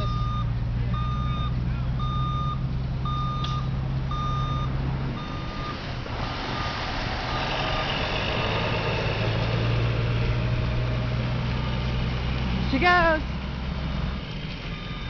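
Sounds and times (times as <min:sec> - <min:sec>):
truck reversing alarm beeping: 0:00.0 - 0:10.8, 0:12.8 - 0:15.0
truck engine running: 0:00.0 - 0:15.0
wide rumble: 0:00.0 - 0:15.0.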